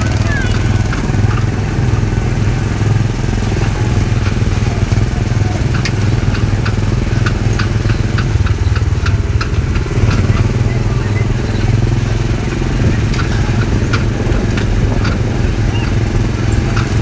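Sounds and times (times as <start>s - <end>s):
small gasoline engine droning: 0.0s - 17.0s.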